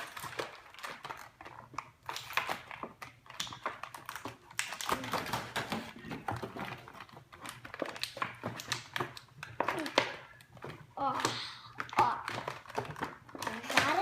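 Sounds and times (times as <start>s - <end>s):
toy packaging clicking: 0.0s - 14.0s.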